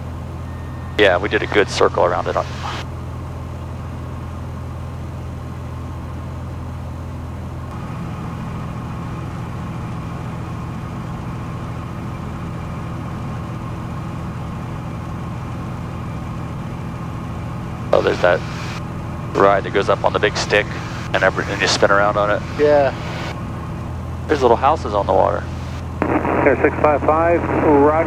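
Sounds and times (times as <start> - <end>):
propeller plane engine drone in cabin: 0.0 - 28.0.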